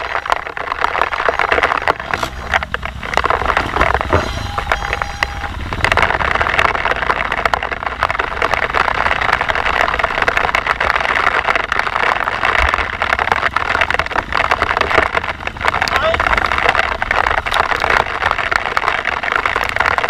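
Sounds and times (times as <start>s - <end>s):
dirt bike engine: 0.0s - 20.0s.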